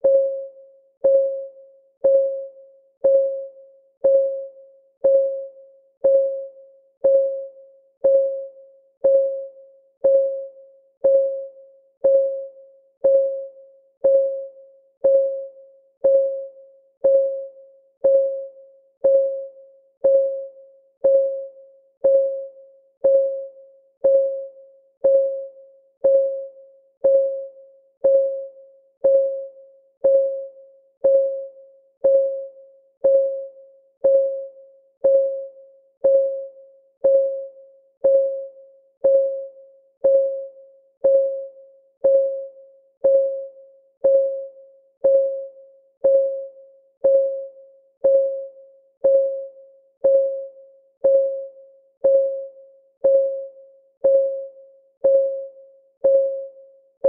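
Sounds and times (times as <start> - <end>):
bell-like clock ticks: 1.0 - 56.6.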